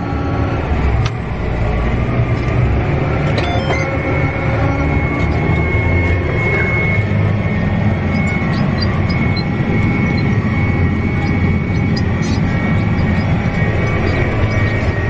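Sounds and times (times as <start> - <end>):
high whine: 0.0 - 15.0
tractor engine drone: 0.0 - 15.0.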